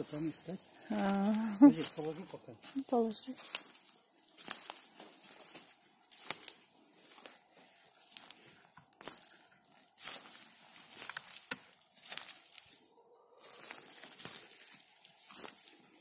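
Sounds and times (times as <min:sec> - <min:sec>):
footsteps crunching on pine needles: 0:00.0 - 0:16.0.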